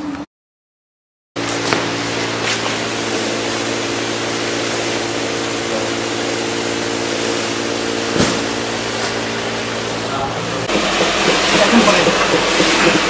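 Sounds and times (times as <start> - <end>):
factory machinery humming: 1.4 - 13.0.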